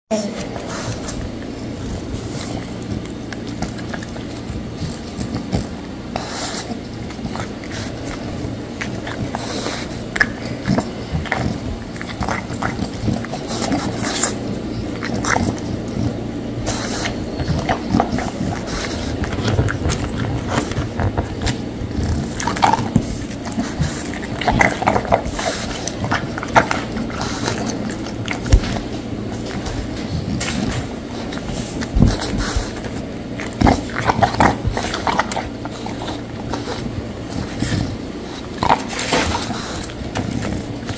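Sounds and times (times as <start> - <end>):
dog chewing crunchy snacks: 0.3 - 40.9.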